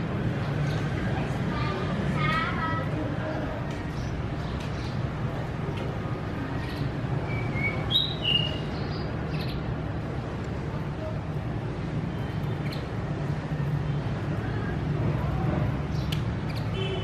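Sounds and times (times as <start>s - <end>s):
songbirds chirping: 0.0s - 17.0s
steady low background noise: 0.0s - 17.0s.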